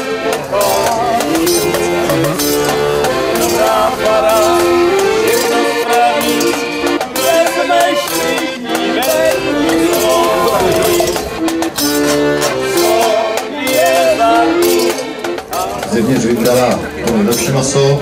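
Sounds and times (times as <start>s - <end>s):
accordion folk tune: 0.0s - 18.0s
rattling percussion: 0.1s - 18.0s.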